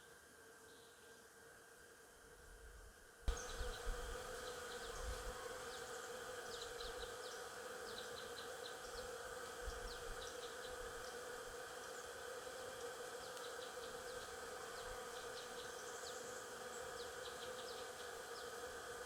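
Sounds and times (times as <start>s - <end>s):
bees buzzing: 3.3s - 19.0s.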